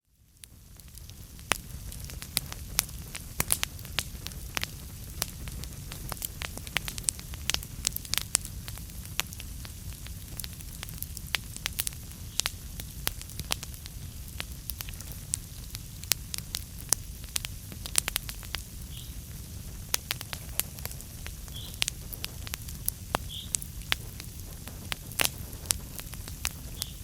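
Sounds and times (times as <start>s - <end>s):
low rumble of fire: 0.0s - 27.0s
logs crackling and popping: 0.2s - 27.0s.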